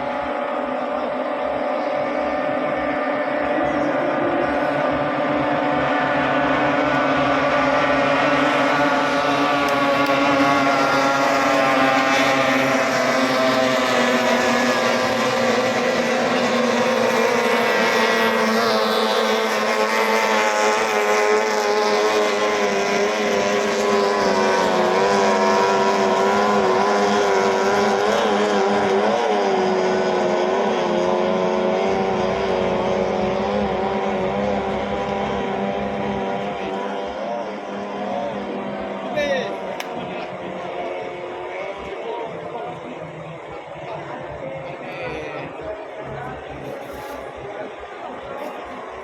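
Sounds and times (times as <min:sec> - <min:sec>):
speedboat outboard motors droning: 0:00.0 - 0:49.0.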